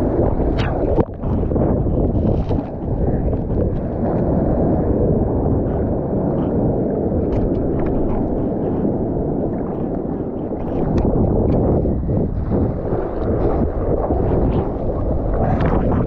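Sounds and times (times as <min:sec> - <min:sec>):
seawater sloshing: 0:00.0 - 0:16.0.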